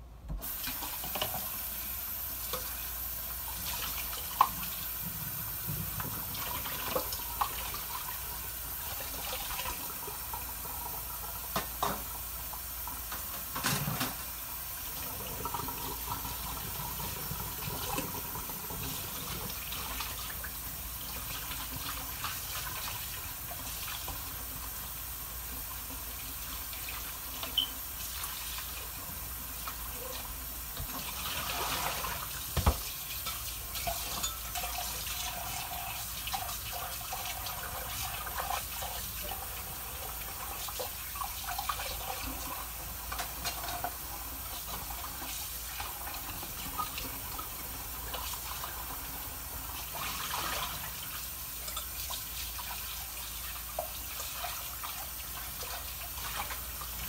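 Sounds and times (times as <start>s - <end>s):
food sizzling on grill: 0.4s - 57.0s.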